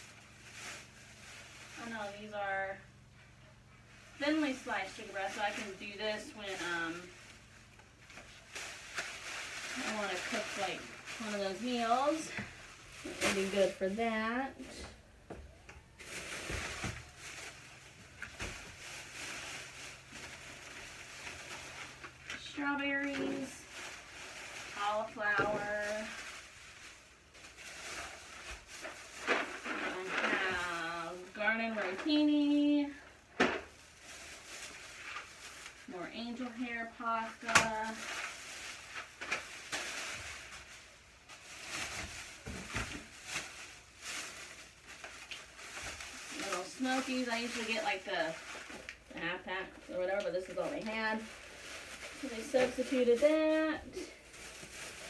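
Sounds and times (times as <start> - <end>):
bags and packaging rustling: 0.0 - 55.0.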